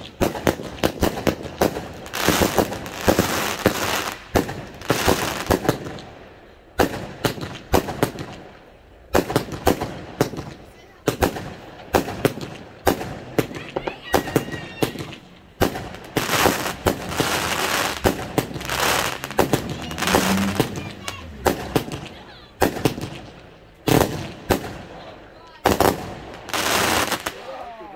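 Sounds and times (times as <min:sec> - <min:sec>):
hissing crackle of firework sparks: 0:00.0 - 0:06.1, 0:10.2 - 0:25.0, 0:25.6 - 0:27.6
firework shots and bursts: 0:00.0 - 0:27.5.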